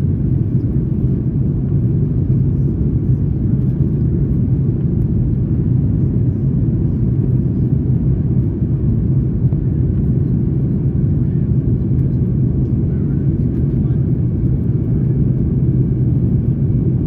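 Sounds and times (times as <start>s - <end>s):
jet engine and airflow rumble: 0.0s - 17.0s.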